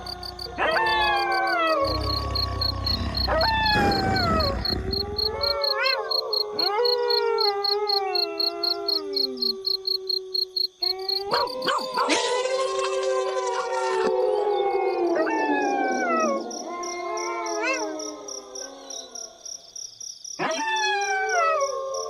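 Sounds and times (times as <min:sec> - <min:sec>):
wolves howling: 0:00.0 - 0:09.6, 0:11.2 - 0:19.4.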